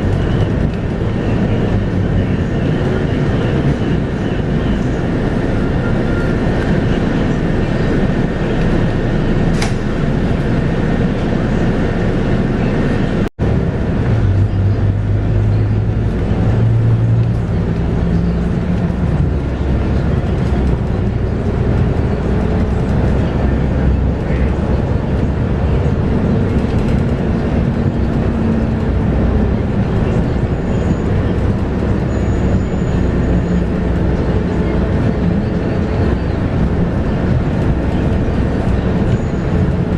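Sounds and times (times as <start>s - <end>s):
bus diesel engine: 0.0s - 39.9s
road and tyre noise: 0.0s - 39.9s.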